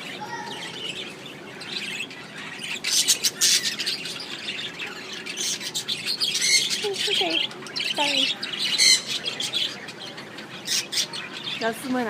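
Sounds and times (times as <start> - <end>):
parakeets chirping and squawking: 0.0 - 12.0.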